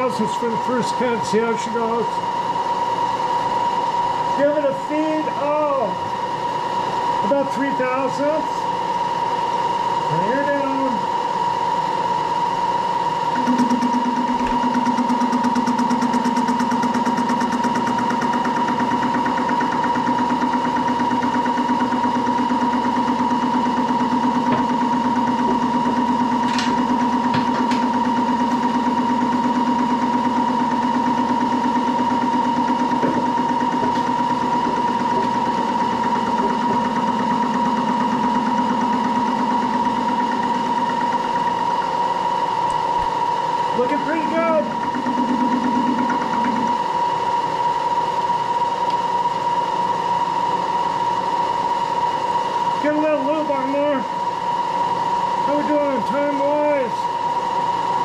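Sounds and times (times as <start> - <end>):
low machine hum: 0.0 - 58.0
machine steady whine: 0.0 - 58.0.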